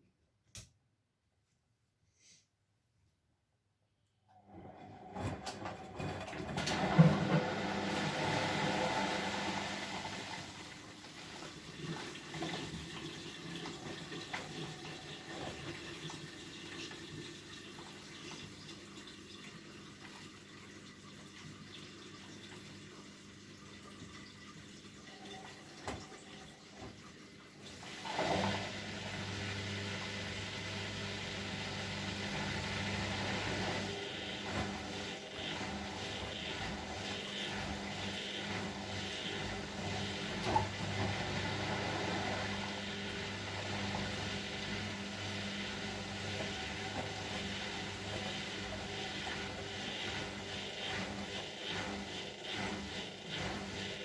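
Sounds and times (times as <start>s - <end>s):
water rushing into washing machine: 4.3s - 54.0s.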